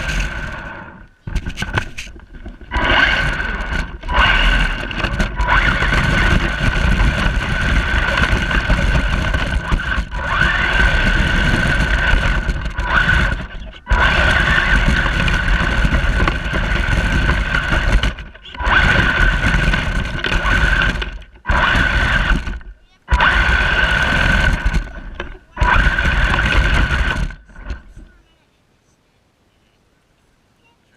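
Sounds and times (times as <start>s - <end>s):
toy truck electric motor whining: 0.0s - 28.1s
wheels rumbling on ground: 0.0s - 28.3s.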